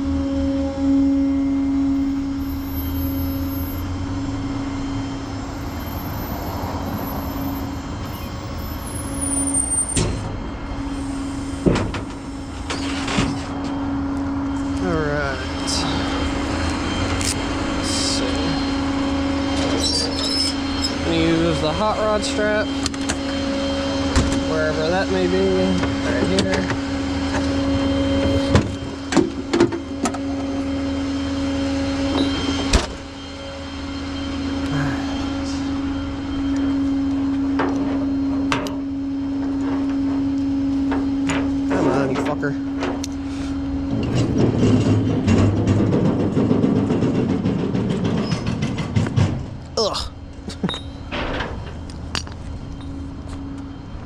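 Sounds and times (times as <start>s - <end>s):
tow equipment mechanical hum: 0.0s - 54.0s
truck engine running: 0.0s - 54.0s.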